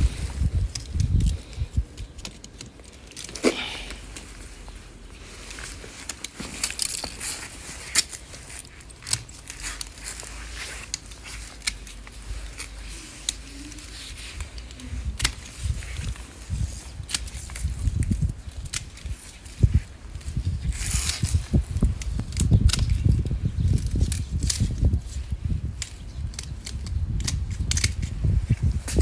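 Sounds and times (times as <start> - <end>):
pruning shears snipping stems: 5.2 - 29.0.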